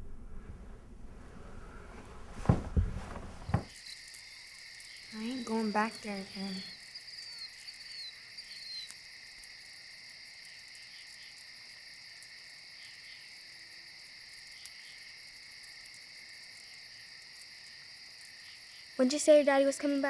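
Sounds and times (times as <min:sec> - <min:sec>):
crickets and insects trilling: 0:02.4 - 0:20.0.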